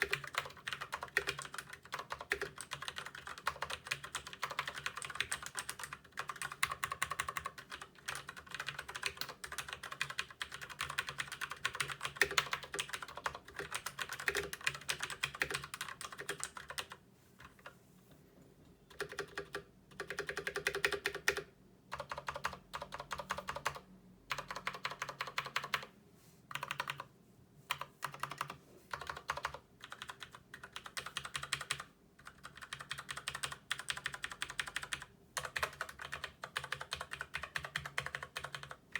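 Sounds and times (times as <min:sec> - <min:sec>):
mechanical keyboard typing: 0:00.0 - 0:17.7, 0:18.9 - 0:25.9, 0:26.5 - 0:27.1, 0:27.7 - 0:38.9.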